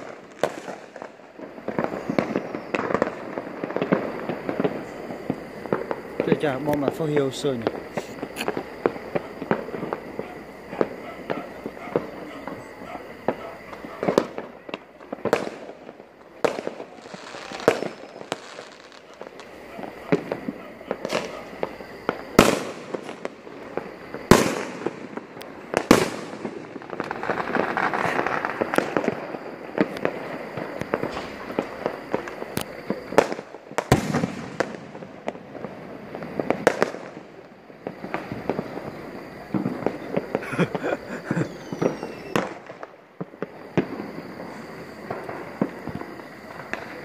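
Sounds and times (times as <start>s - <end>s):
fireworks bangs: 0.0s - 47.0s
fireworks crackle: 0.0s - 47.0s.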